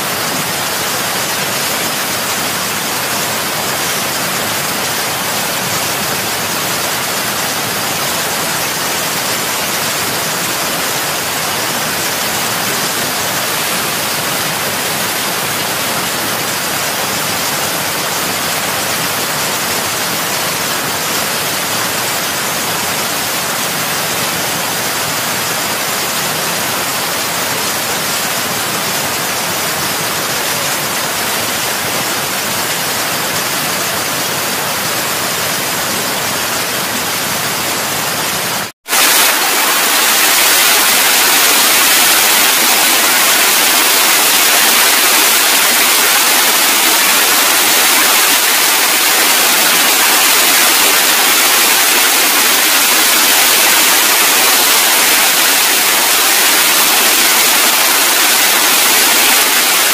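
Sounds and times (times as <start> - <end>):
falling water rushing: 0.0 - 59.9.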